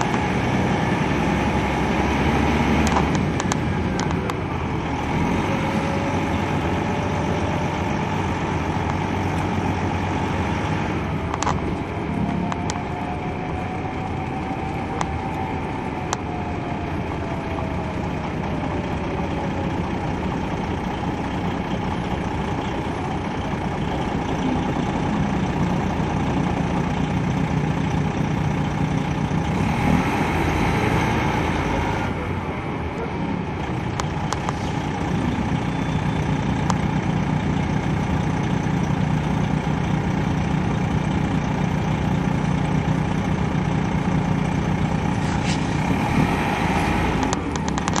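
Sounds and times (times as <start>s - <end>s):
bus diesel engine running: 0.0s - 48.0s.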